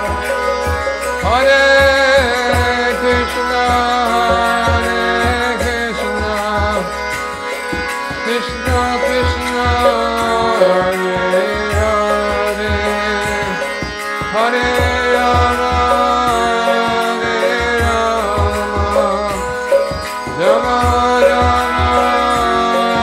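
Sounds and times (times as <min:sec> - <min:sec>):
gliding melodic lines: 0:00.0 - 0:23.0
steady drum beat: 0:00.0 - 0:23.0.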